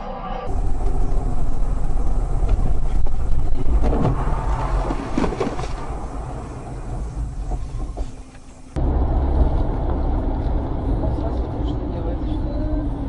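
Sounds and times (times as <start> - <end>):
vehicle road and engine rumble: 0.5 - 13.0.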